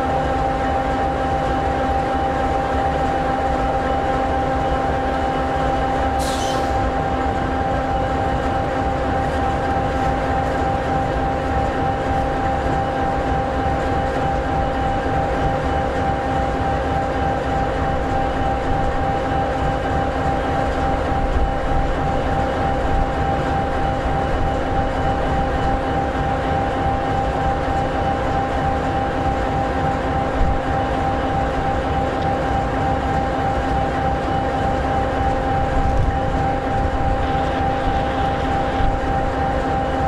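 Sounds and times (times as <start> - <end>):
diesel locomotive idling: 0.0 - 40.0.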